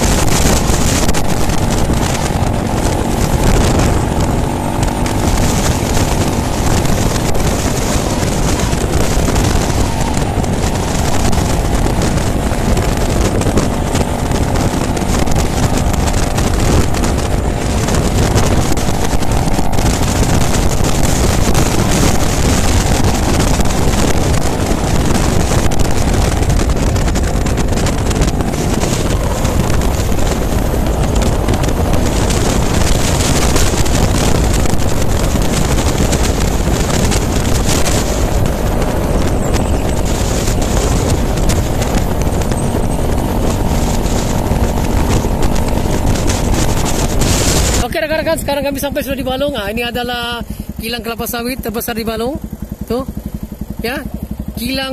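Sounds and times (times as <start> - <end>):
motorcycle engine running: 0.0 - 54.9
wind buffeting microphone: 0.0 - 54.9.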